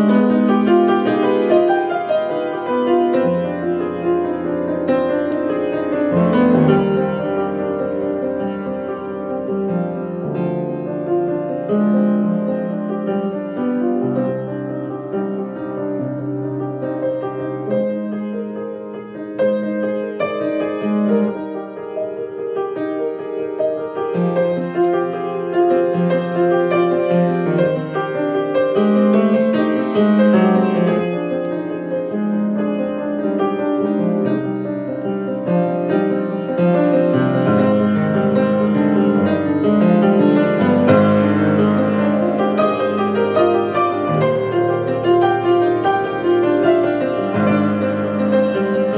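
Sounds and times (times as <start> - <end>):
piano melody over bass line: 0.0 - 48.9.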